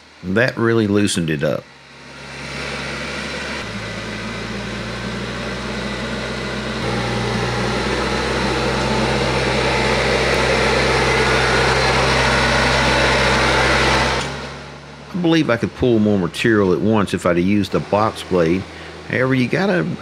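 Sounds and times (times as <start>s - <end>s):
diesel tractor running under load: 0.0s - 20.0s.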